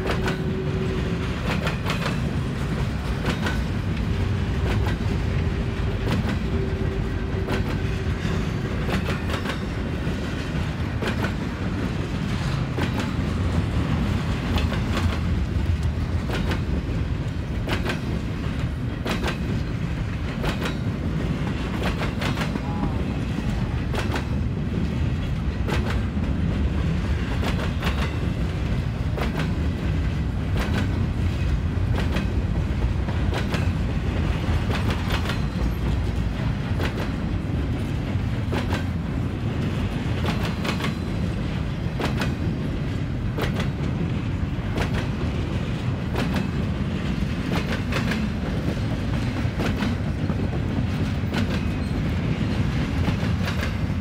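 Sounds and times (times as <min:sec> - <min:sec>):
wheels clacking over rail joints: 0:00.0 - 0:54.0
wheels rumbling on rail: 0:00.0 - 0:54.0.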